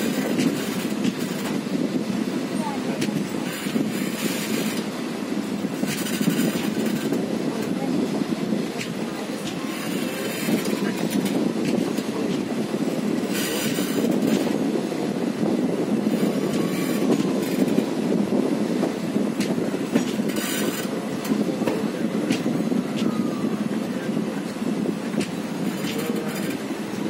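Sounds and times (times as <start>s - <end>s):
train coaches rumbling: 0.0s - 27.0s
wheels clattering over rails: 0.0s - 27.0s.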